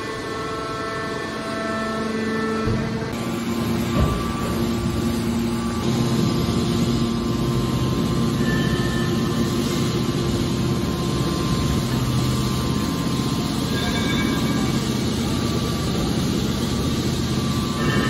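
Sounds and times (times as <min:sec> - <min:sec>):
baling machine droning: 0:00.0 - 0:18.0.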